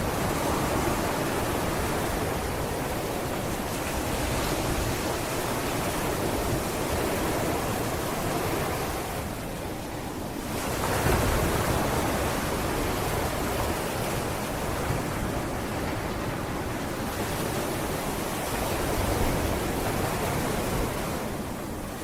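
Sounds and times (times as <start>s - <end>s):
sea waves on a beach: 0.0s - 22.0s.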